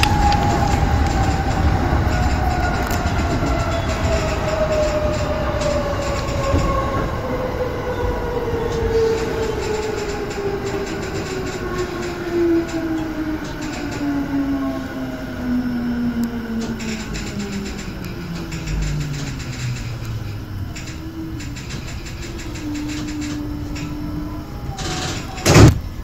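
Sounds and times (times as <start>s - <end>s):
rail-joint clicks: 0.0s - 26.0s
train traction motors whining: 0.0s - 26.0s
train wheels rumbling: 0.0s - 26.0s.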